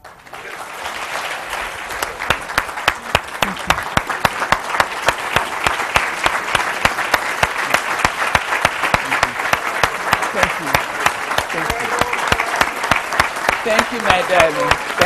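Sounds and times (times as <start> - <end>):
audience applauding: 0.0 - 15.0
nearby hands clapping sharply: 0.0 - 15.0.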